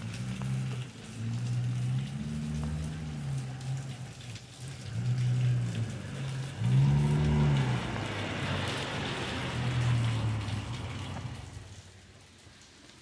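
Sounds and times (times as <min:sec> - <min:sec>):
cars passing: 0:00.0 - 0:12.6
rain on pavement: 0:00.0 - 0:13.0
tyre hiss on wet road: 0:00.0 - 0:13.0.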